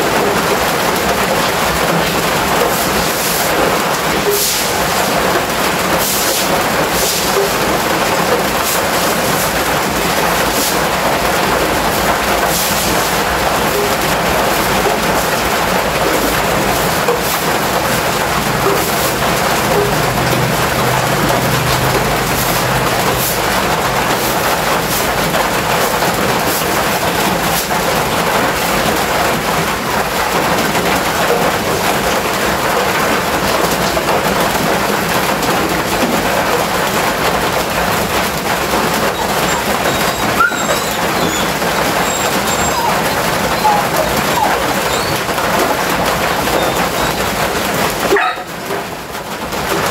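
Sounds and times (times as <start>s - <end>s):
rushing hiss of water: 0.2s - 48.0s.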